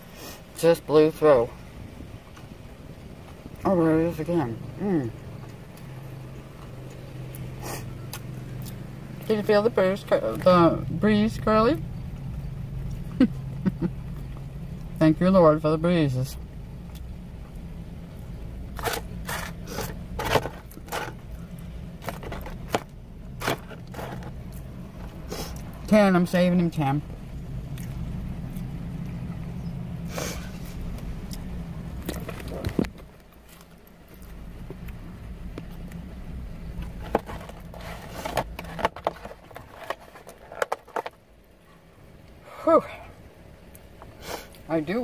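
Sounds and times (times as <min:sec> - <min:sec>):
low steady hum: 0:00.0 - 0:45.0
low vehicle rumble: 0:00.0 - 0:45.0.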